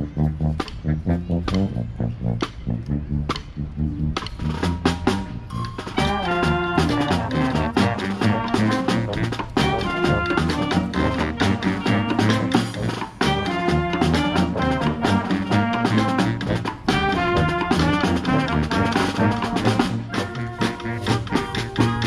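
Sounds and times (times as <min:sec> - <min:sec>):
brass band playing: 0:00.0 - 0:22.0
marching snare drums: 0:04.2 - 0:22.0.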